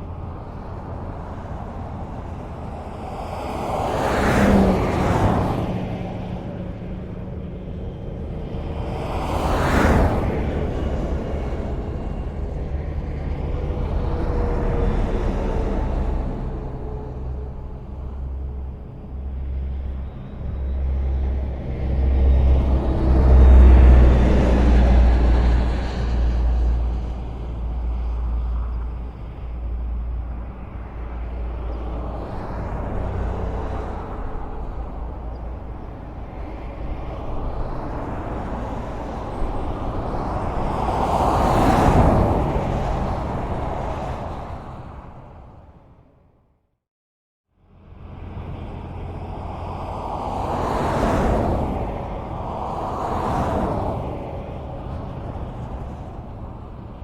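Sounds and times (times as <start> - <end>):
heavy vehicle passing: 0.0 - 45.9, 47.8 - 57.0
highway traffic rumble: 0.0 - 46.7, 47.5 - 57.0.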